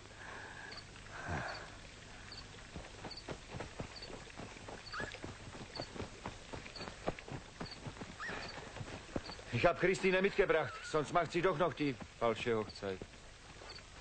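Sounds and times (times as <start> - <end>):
horse hooves clopping: 2.3 - 14.0.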